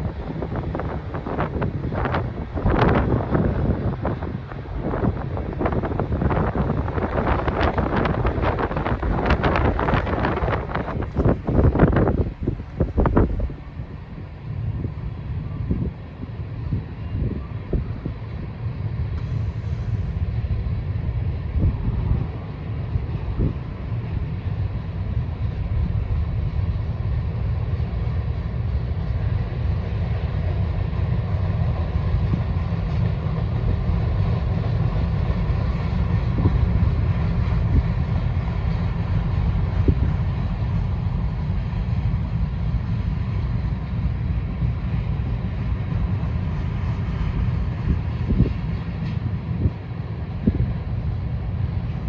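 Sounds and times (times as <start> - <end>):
wind buffeting microphone: 0.0 - 28.3, 29.2 - 52.0
freight cars rolling past: 0.0 - 52.0.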